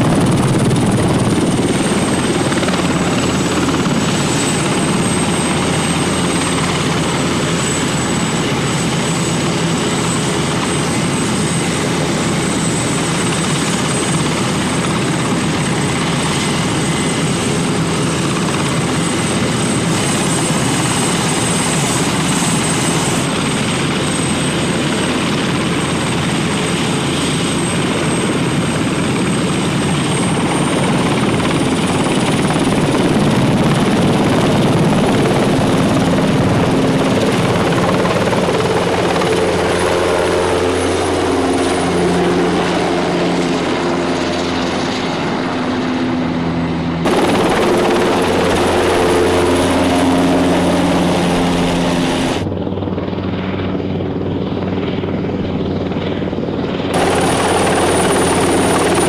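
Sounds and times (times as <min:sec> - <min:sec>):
helicopter rotor and engine: 0:00.0 - 0:59.0
high turbine whine: 0:00.0 - 0:59.0.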